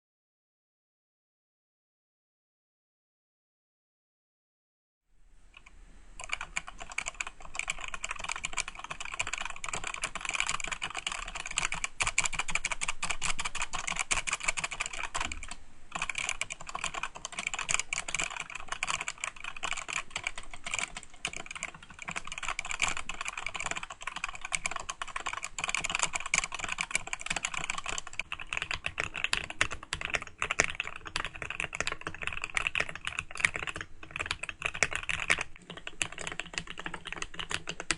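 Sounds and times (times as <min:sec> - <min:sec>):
typing on mechanical keyboard: 0:05.6 - 0:37.9.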